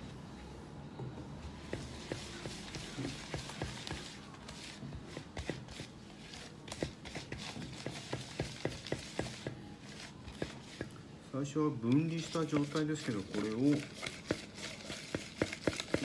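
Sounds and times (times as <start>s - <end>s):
spatula scraping wet batter: 1.6s - 11.0s, 11.8s - 16.0s.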